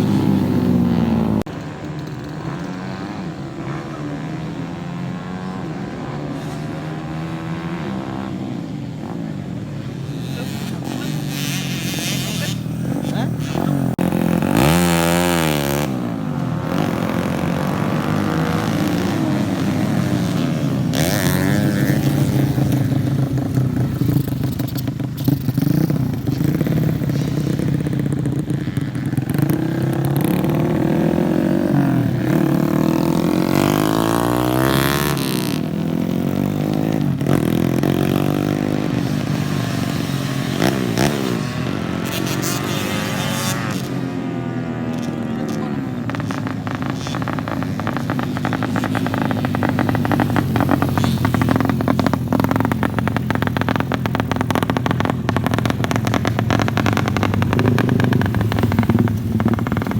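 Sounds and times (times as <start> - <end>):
racing motorcycles revving past: 0.0 - 59.9.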